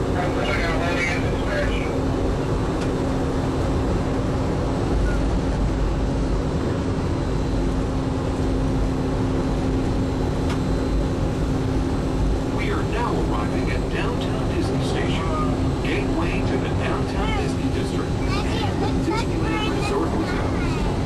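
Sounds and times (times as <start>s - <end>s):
monorail rumble with hum: 0.0s - 21.0s.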